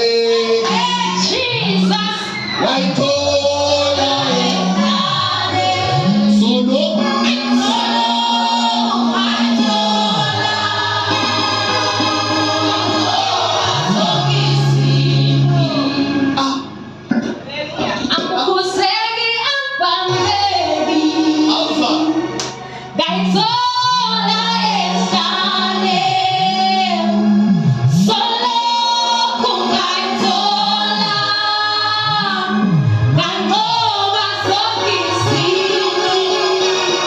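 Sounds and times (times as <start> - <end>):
choir singing gospel: 0.0 - 17.2, 18.0 - 37.0.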